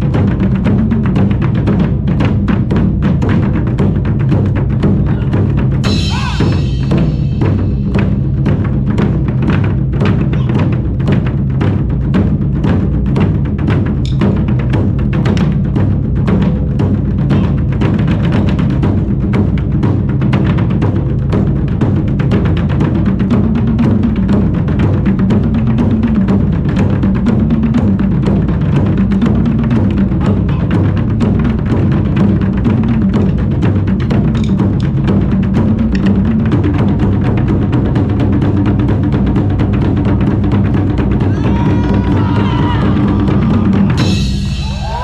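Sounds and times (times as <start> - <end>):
drums playing fast rhythm: 0.0 - 45.0.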